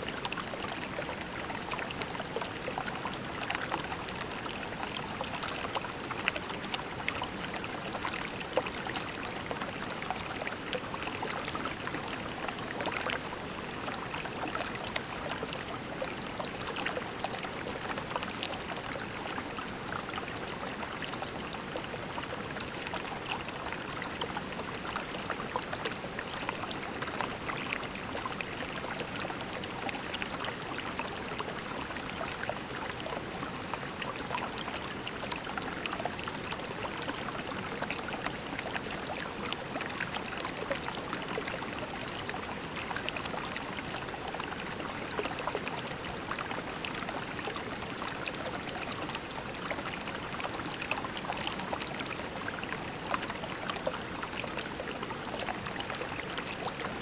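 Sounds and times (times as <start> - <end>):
creek water flowing over pebbles: 0.0 - 57.0.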